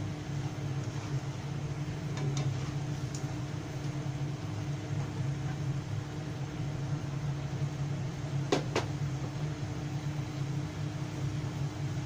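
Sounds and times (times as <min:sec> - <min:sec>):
food simmering in a frying pan: 0:00.0 - 0:12.0
steady low hum: 0:00.0 - 0:12.0.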